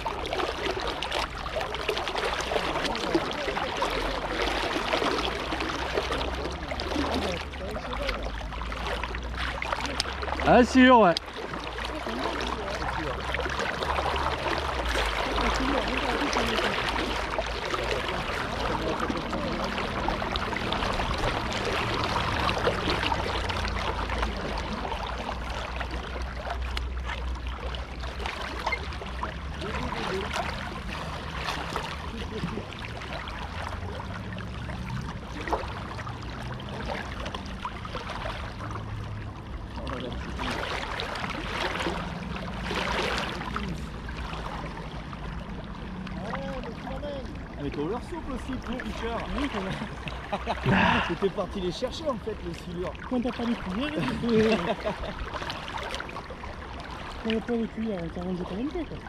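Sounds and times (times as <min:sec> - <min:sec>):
flowing river water: 0:00.0 - 0:59.0.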